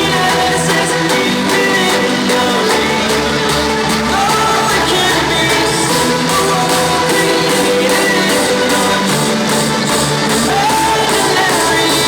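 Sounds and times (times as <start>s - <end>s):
hardstyle dance music: 0.0s - 12.0s
sung vocal line: 0.0s - 12.0s.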